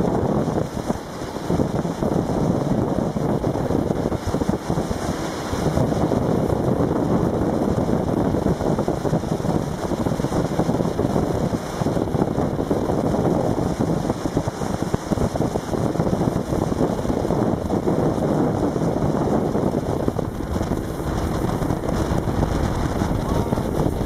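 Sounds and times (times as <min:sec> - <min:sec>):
boat motor running: 0:00.0 - 0:24.0
water rushing past hull: 0:00.0 - 0:24.0
wind buffeting microphone: 0:00.0 - 0:24.0.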